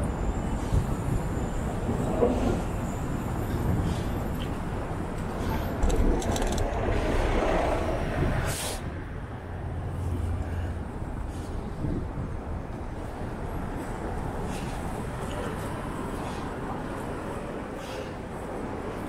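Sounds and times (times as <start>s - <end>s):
passing vehicles: 0.0s - 19.0s.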